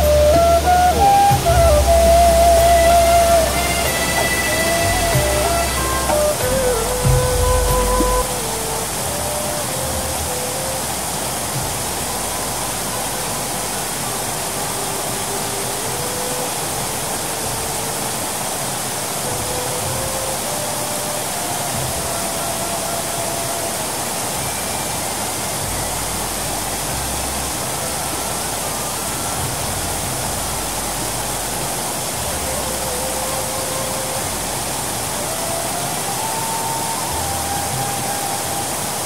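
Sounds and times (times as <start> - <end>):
slow tune of held notes: 0.0 - 39.0
waterfall rushing: 0.0 - 39.0.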